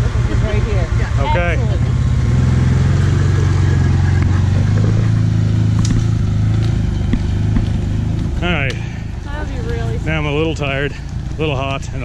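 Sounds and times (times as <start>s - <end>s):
all-terrain vehicle engine running: 0.0s - 12.0s.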